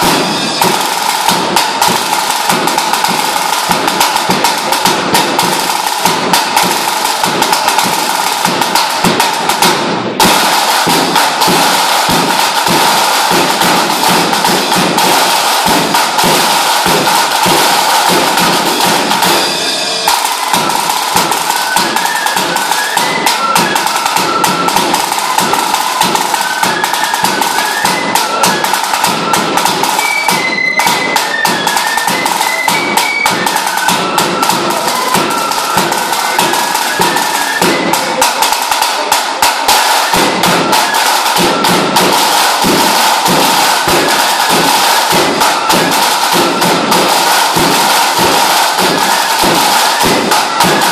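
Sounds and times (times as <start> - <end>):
drums beaten with cane sticks: 0.0 - 50.9
high melody of short notes: 0.0 - 50.9.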